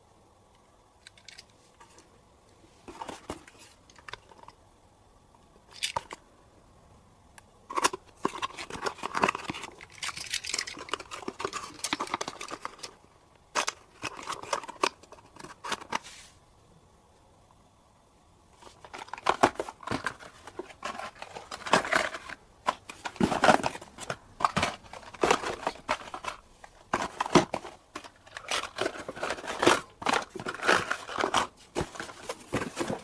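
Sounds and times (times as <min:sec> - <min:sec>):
rustling and crinkling: 0:01.1 - 0:04.6, 0:07.7 - 0:16.4, 0:18.5 - 0:33.0.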